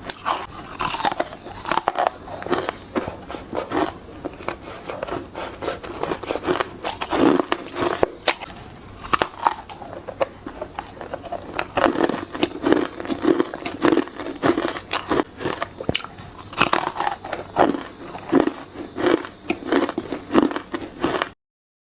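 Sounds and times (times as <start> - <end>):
ice cubes crunched by teeth: 0.0 - 21.3.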